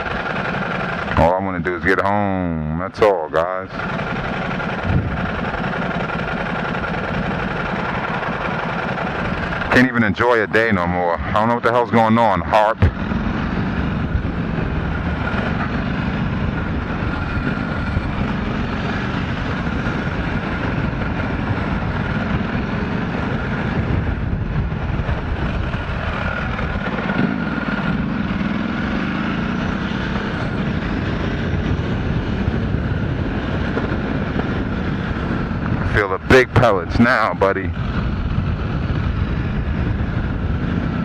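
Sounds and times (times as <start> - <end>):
motorcycle engine running: 0.0 - 41.0
wind rush on microphone: 3.8 - 11.4, 12.0 - 41.0.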